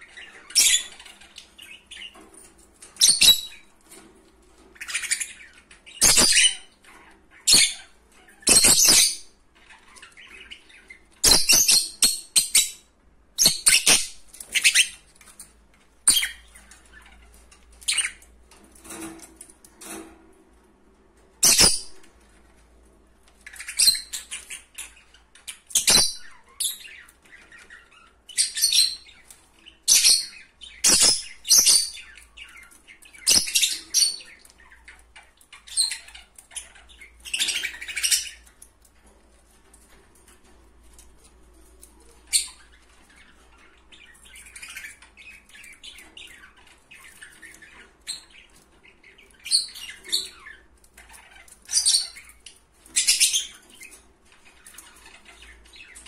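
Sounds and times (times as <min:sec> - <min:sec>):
parrots chirping: 0:00.0 - 0:56.0.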